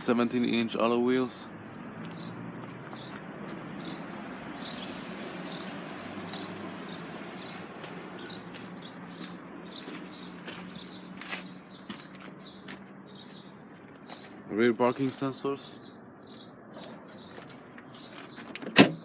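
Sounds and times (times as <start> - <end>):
small birds chirping: 0.0 - 18.7.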